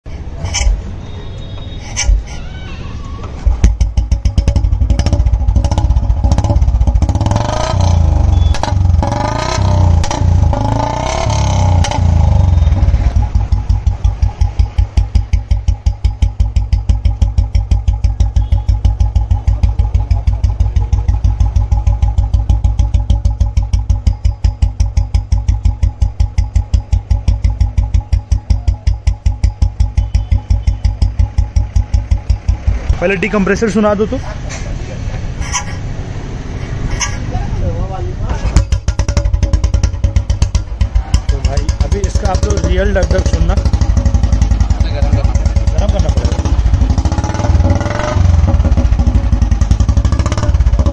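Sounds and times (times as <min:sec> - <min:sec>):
motorcycle engine revving and idling: 0:03.2 - 0:50.9.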